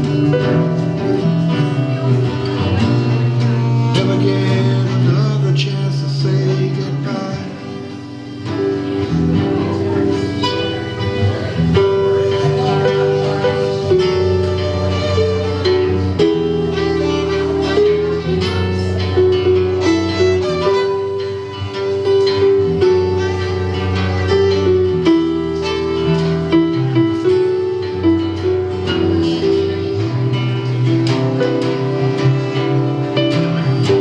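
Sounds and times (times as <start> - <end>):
rock band playing: 0.0 - 34.0
lead melody in held notes: 6.4 - 34.0.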